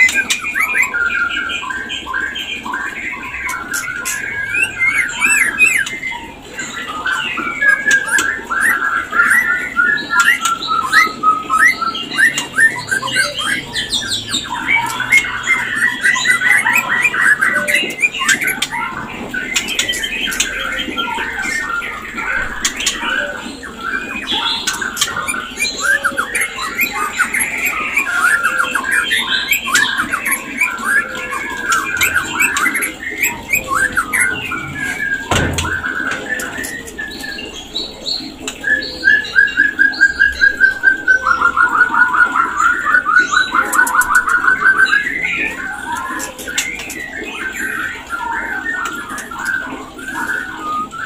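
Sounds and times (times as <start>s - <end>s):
bird singing whistled phrases: 0.0s - 51.0s.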